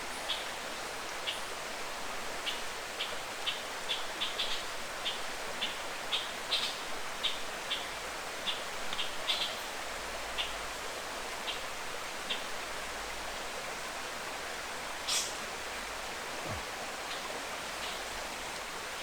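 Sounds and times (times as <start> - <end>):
forest ambience hiss: 0.0 - 19.0.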